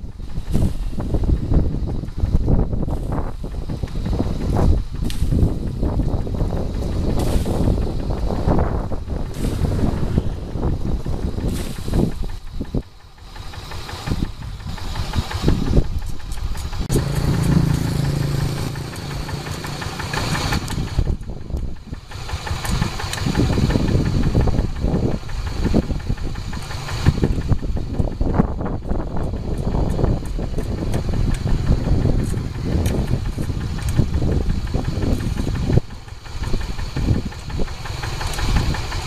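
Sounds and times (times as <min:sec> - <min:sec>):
diesel engine chugging: 0:00.0 - 0:39.0.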